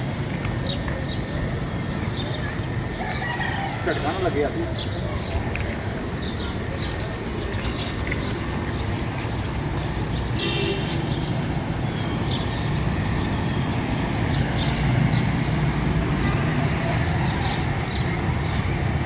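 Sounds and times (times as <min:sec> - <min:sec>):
low rumble of vehicles: 0:00.0 - 0:19.0.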